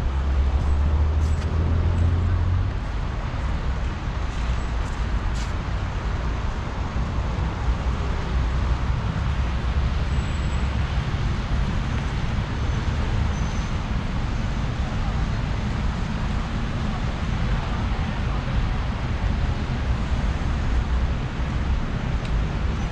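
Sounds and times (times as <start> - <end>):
traffic rumble on wet road: 0.0 - 22.9.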